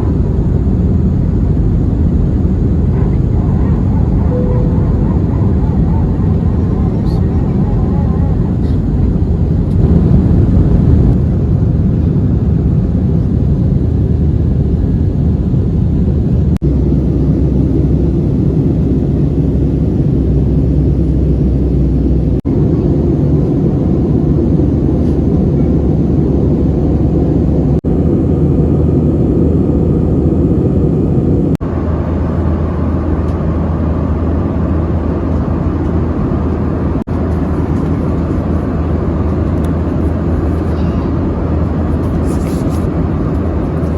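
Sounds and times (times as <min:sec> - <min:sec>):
aircraft cabin engine rush: 0:00.0 - 0:43.9.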